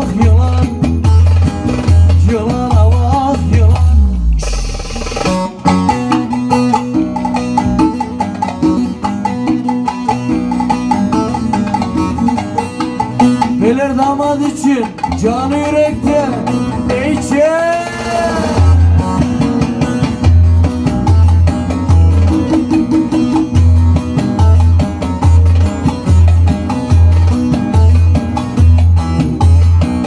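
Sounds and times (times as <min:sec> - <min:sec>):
fast plucked lute melody: 0:00.0 - 0:30.0
hand drum percussion: 0:00.0 - 0:30.0.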